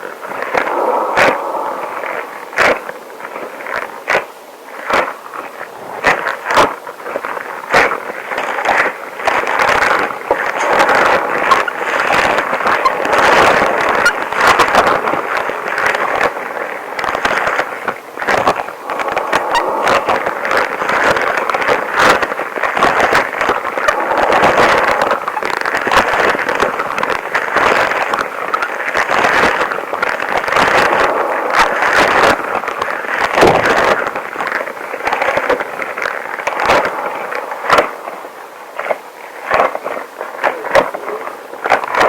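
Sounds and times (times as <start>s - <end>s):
rubber gloves crackling: 0.2s - 42.0s.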